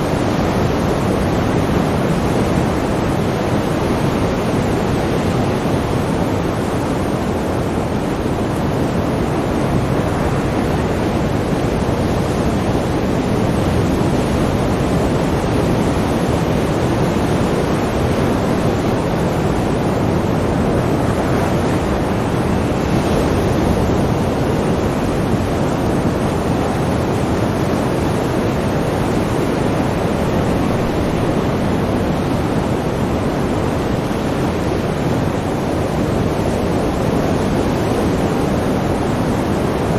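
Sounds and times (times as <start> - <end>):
sea waves and surf: 0.0 - 39.9.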